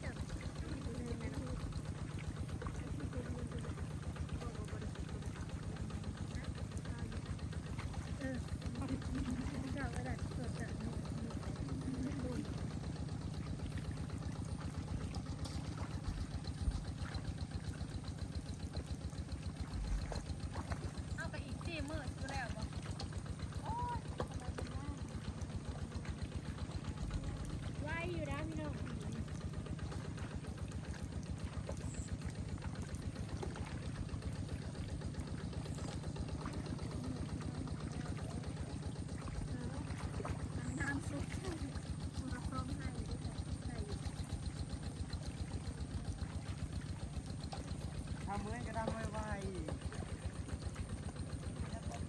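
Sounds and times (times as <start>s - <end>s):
small engine idling: 0.0s - 52.0s.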